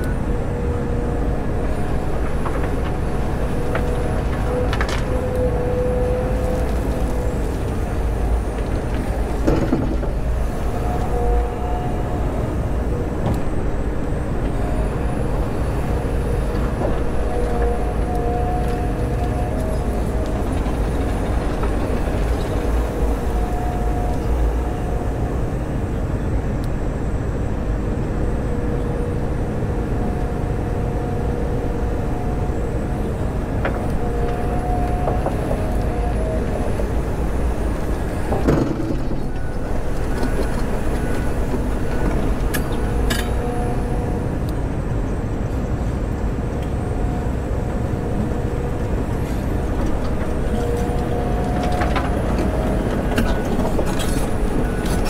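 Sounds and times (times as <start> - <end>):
excavator engine and hydraulics: 0.0 - 55.0
whine: 0.0 - 55.0.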